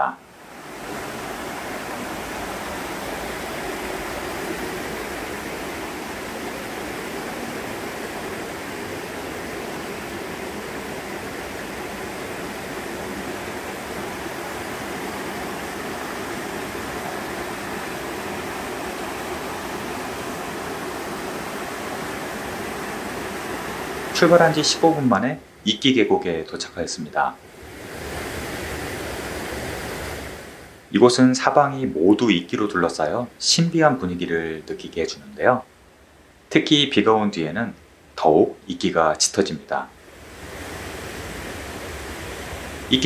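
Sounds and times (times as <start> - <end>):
stream rushing over rocks: 0.0 - 35.2, 39.8 - 43.0.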